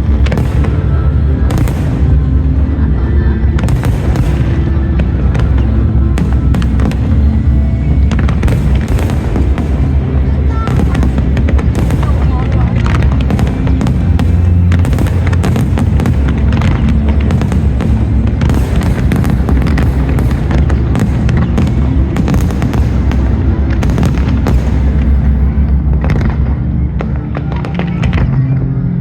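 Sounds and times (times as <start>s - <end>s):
fireworks bangs and crackling: 0.0s - 29.0s
loud show music: 0.0s - 29.0s.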